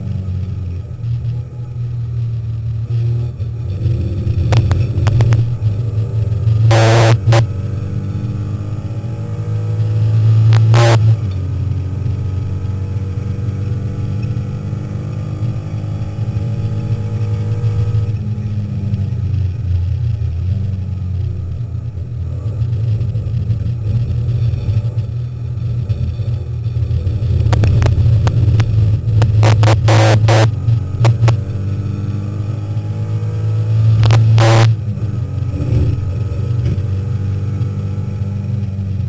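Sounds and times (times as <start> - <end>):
race car engine drone: 0.0 - 39.0.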